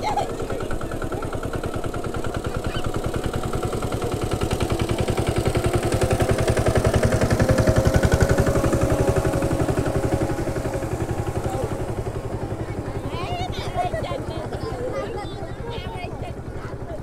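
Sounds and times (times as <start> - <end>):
small engine puttering: 0.0 - 17.0.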